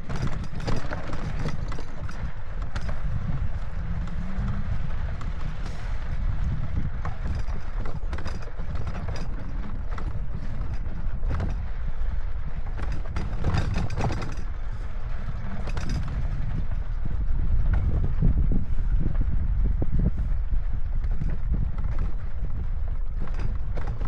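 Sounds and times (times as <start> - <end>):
bike rattling over rocks: 0.0 - 24.0
wind rumble on microphone: 0.0 - 24.0.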